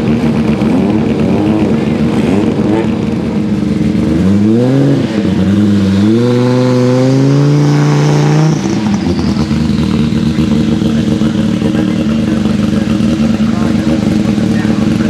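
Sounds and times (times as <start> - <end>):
engine accelerating hard: 0.0 - 15.0
low engine rumble: 0.0 - 15.0.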